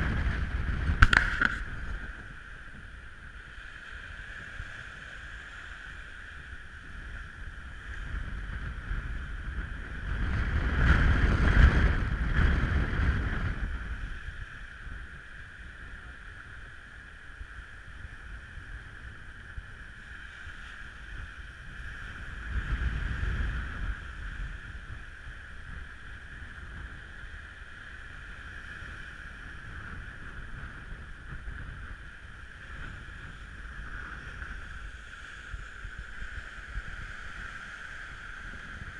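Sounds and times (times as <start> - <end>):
strong wind: 0.0 - 38.9
water noise: 0.0 - 38.9
wind gusts hitting microphone: 0.0 - 38.9.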